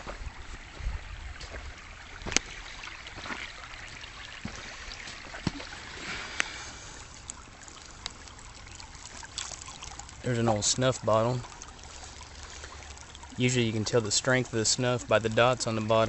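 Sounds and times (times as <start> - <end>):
creek water trickling: 0.0 - 16.0.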